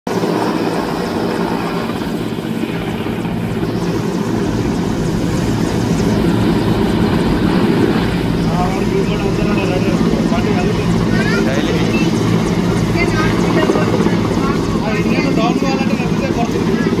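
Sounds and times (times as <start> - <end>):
helicopter rotor and engines: 0.1 - 17.0.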